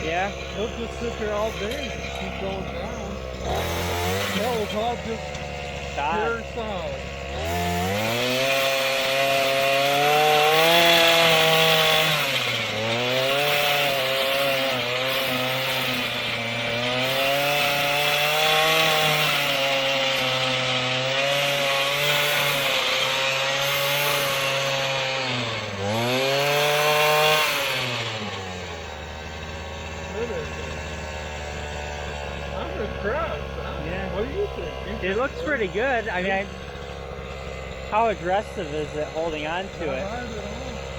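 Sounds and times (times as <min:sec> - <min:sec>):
tiller engine running: 0:00.0 - 0:40.9.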